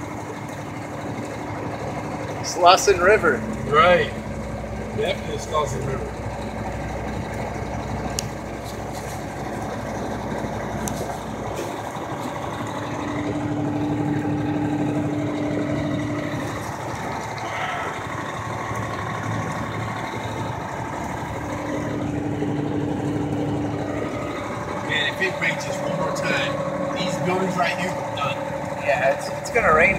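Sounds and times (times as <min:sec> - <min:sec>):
steady engine hum: 0:00.0 - 0:29.9
truck engine running: 0:00.0 - 0:29.9.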